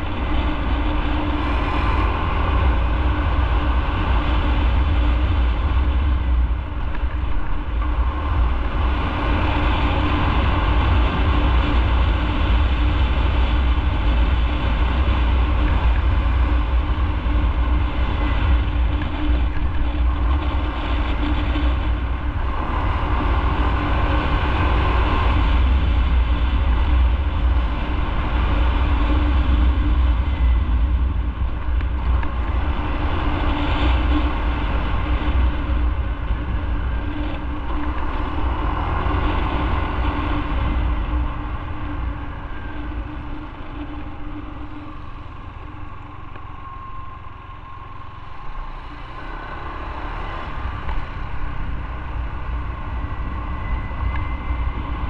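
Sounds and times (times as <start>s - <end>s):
low wind rumble: 0.0s - 55.0s
motorcycle engine running: 0.0s - 55.0s.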